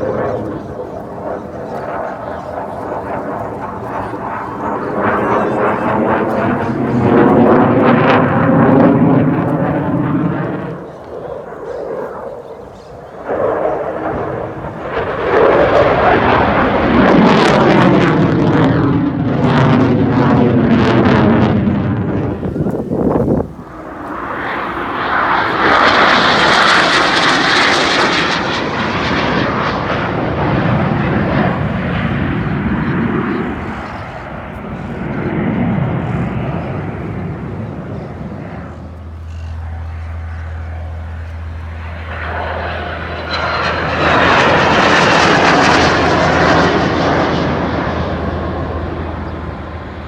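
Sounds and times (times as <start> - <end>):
jet aircraft flying past: 0.0 - 50.0.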